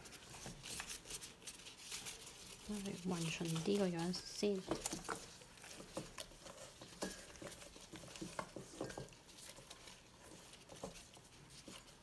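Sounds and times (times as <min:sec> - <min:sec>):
soft squelches of raw chicken: 0:00.0 - 0:12.0.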